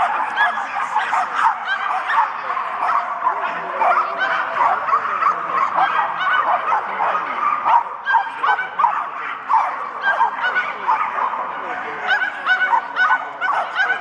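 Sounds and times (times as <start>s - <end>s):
dogs yipping and barking: 0.0s - 14.0s.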